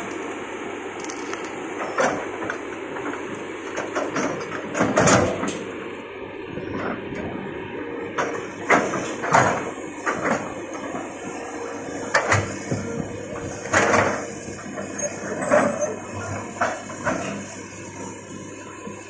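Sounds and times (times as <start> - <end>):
excavator diesel engine running: 0.0 - 19.0
excavator knocks and clanks: 1.1 - 5.7, 6.6 - 7.4, 8.1 - 19.0.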